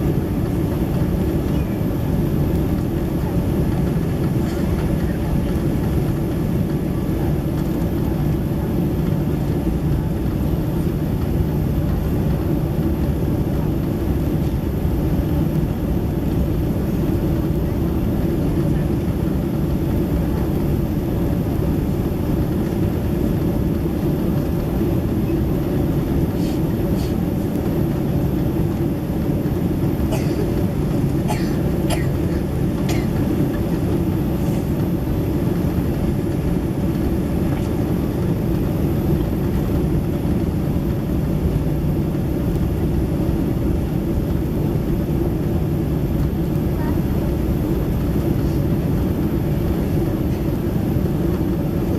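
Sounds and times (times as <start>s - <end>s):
airliner cabin roar: 0.0s - 51.9s.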